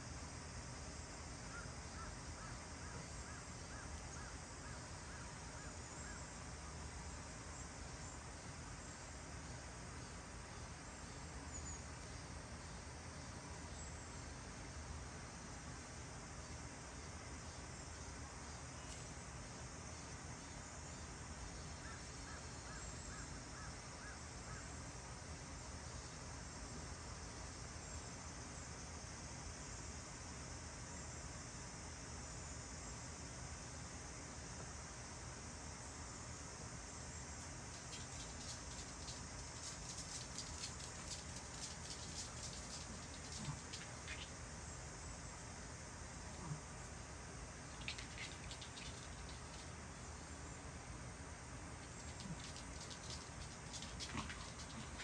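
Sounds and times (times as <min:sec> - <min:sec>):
faint hiss: 0:00.0 - 0:55.0.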